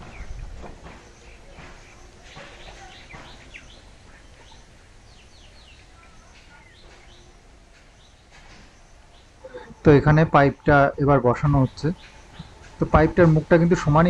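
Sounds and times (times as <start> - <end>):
low steady background noise: 0.0 - 14.0
small birds chirping: 0.0 - 14.0.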